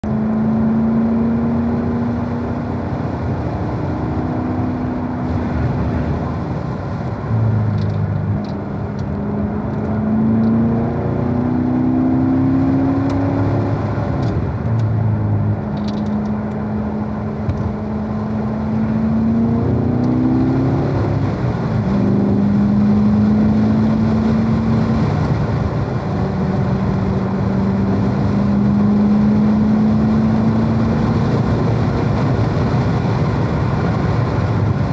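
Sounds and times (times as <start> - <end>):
car engine revving: 0.0 - 34.9
road noise: 0.0 - 34.9.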